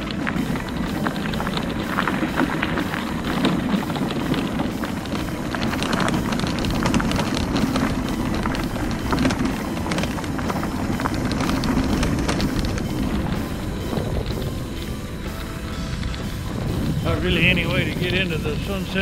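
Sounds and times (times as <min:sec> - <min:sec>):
mobility scooter rumbling on asphalt: 0:00.0 - 0:19.0
small clicks and rattles: 0:00.0 - 0:19.0.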